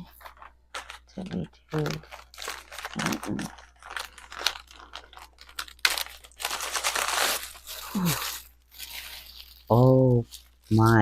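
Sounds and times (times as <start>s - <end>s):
wrapping crinkling and crackling: 0.0s - 11.0s.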